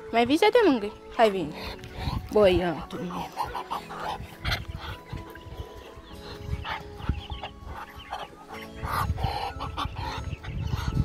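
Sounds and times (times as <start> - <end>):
soft background music: 0.0 - 11.0
poultry noises: 1.0 - 11.0.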